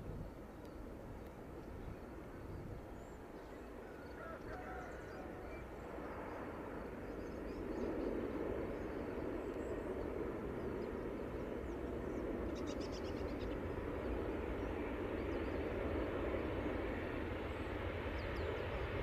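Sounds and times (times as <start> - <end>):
distant turboprop aircraft drone: 0.0 - 19.0.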